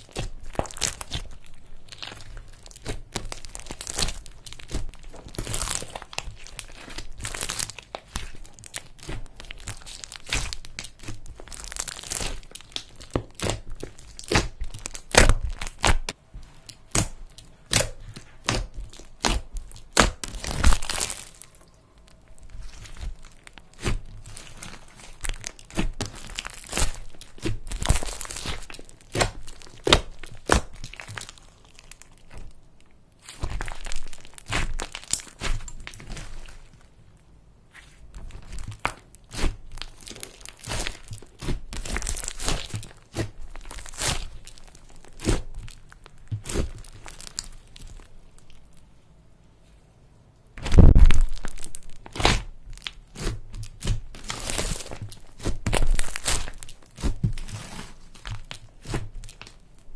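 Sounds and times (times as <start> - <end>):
slime crackling and popping: 0.0 - 37.0, 38.1 - 48.8, 50.6 - 59.9.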